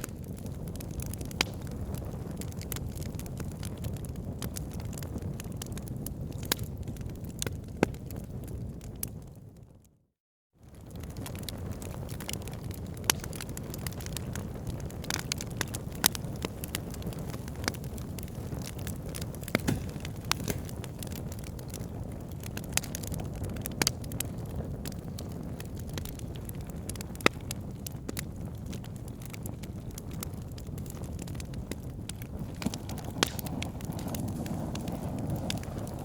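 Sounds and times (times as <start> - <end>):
wood fire crackling: 0.0 - 9.3, 10.7 - 36.0.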